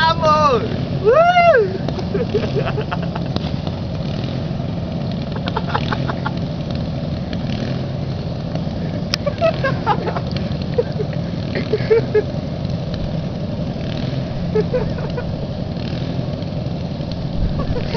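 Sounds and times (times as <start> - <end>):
lawn mower engines running: 0.0 - 17.9.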